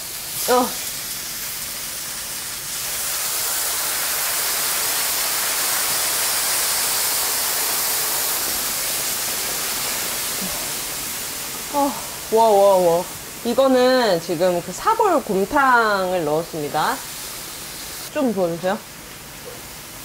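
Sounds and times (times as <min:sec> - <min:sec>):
broth hissing on hot metal: 0:00.0 - 0:20.0.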